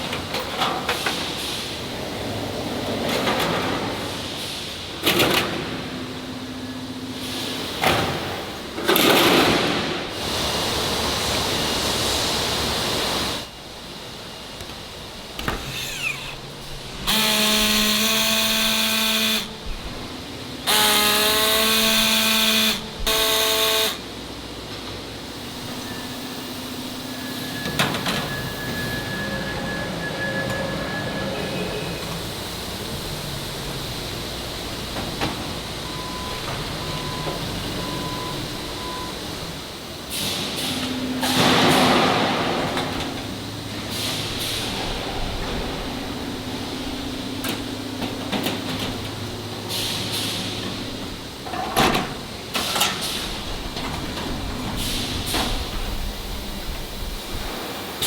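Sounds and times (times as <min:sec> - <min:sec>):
machinery and tool noise: 0:00.0 - 0:58.0.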